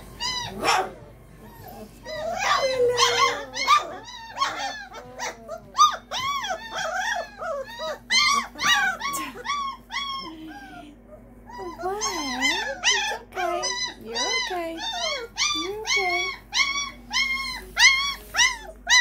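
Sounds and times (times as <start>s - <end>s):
puppies whining and yelping: 0.0s - 19.0s.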